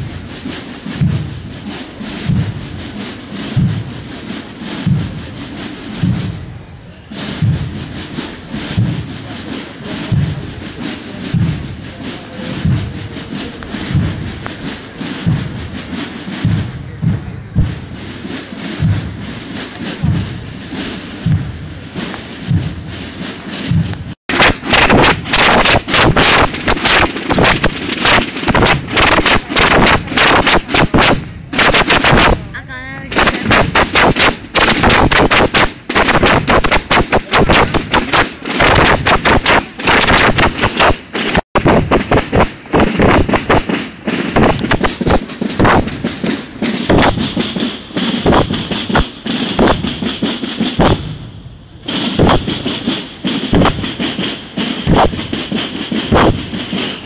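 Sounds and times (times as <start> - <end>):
drums beating fast: 0.0 - 57.0.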